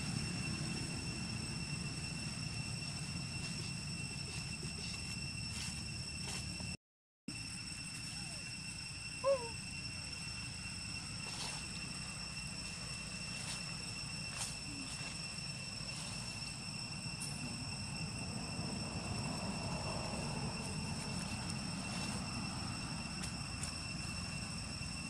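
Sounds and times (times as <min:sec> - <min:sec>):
low outdoor rumble: 0:00.0 - 0:06.8, 0:07.4 - 0:25.0
insects shrilling: 0:00.0 - 0:25.0.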